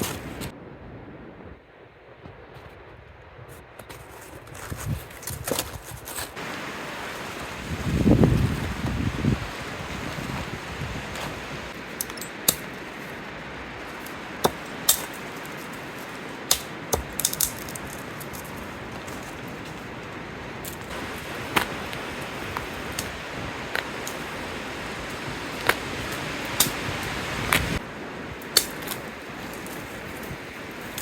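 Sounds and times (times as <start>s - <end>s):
steady wind hiss: 0.0s - 31.0s.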